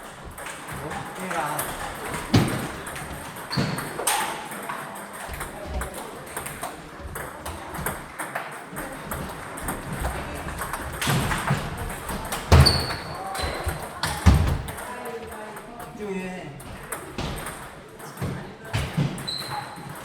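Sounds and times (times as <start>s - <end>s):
table tennis balls clicking: 0.0s - 16.0s, 16.6s - 20.0s.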